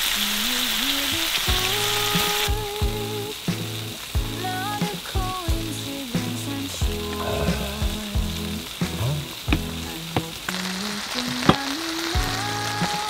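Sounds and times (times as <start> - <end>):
chicken sizzling on a grill plate: 0.0 - 13.0.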